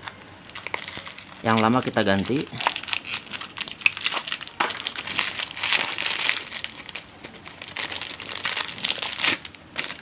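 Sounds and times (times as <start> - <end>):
plastic parts rustling and crinkling: 0.5 - 10.0.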